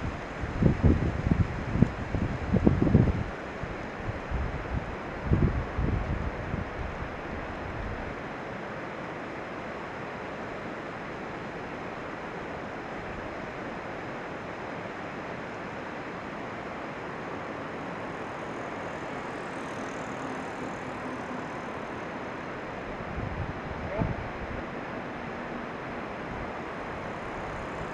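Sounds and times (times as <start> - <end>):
steady rushing noise: 0.0 - 27.9.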